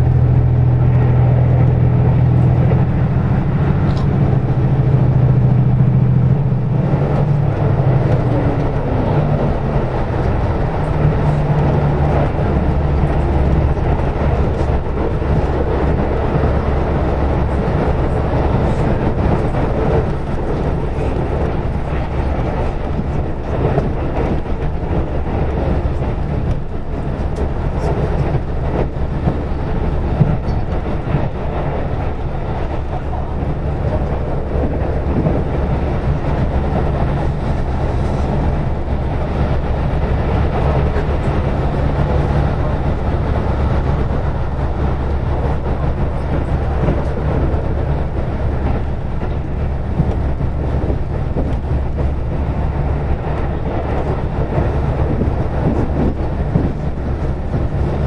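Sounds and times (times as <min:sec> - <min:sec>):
diesel engine drone: 0:00.0 - 0:58.0
wheel and rail noise: 0:00.0 - 0:58.0.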